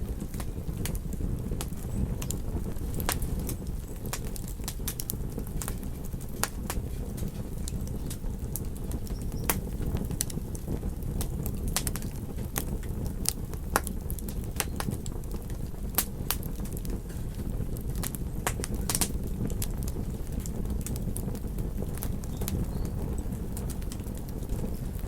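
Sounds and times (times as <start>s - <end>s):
fire crackling with pops: 0.0s - 25.0s
low rumble of burning: 0.0s - 25.0s.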